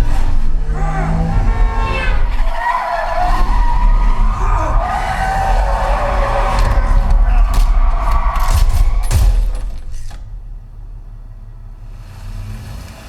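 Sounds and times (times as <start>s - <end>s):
heavy deep rumble: 0.0s - 13.0s
tyres squealing: 0.0s - 13.0s.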